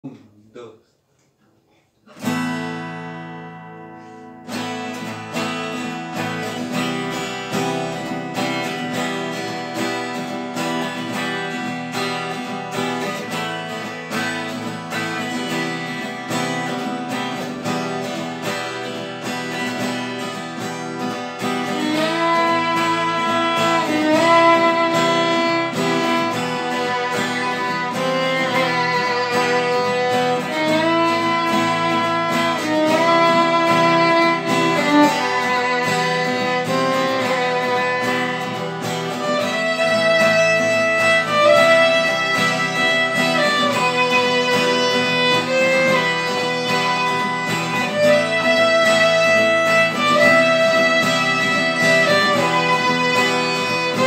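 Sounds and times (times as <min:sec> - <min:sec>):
guitars strumming and picking: 0:02.1 - 0:54.0
violin sliding notes: 0:04.5 - 0:54.0.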